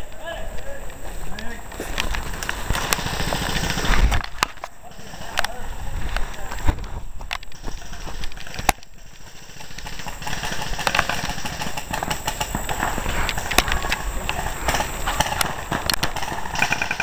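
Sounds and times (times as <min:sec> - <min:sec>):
leaves and brush rustling: 0:00.0 - 0:17.0
running footsteps through undergrowth: 0:00.0 - 0:17.0.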